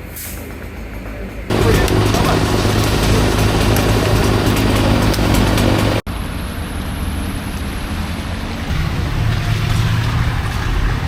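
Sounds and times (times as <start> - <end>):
vehicle engines rumbling: 0.0 - 11.0
water washing: 0.5 - 6.4, 7.0 - 11.0.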